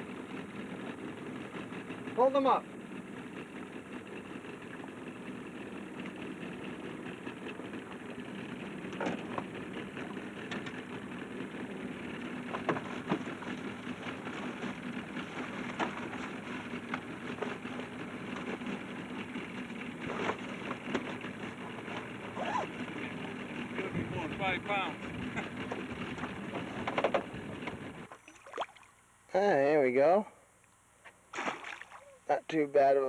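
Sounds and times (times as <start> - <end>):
outboard motor idling: 0.0 - 33.0.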